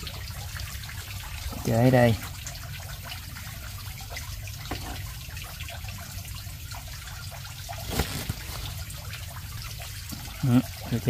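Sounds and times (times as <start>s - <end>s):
small drips: 0.0s - 11.0s.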